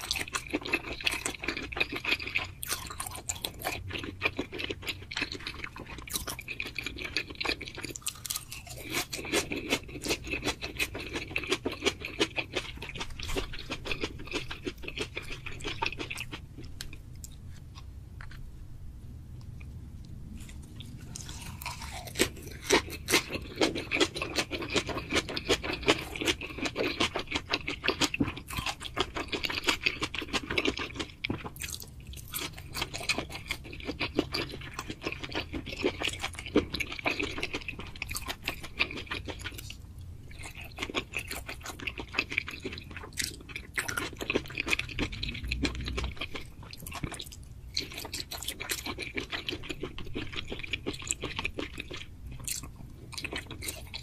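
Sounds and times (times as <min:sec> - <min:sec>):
chewing with sharp crunches: 0:00.0 - 0:18.4, 0:19.4 - 0:54.0.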